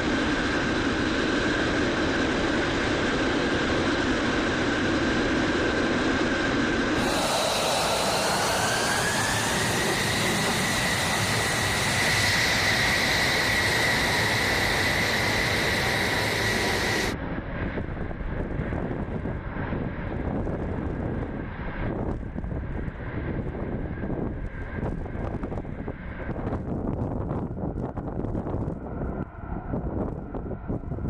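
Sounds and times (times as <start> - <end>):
dull jet engine roar: 0.0 - 31.0
jet engine roaring with whine: 0.0 - 31.0.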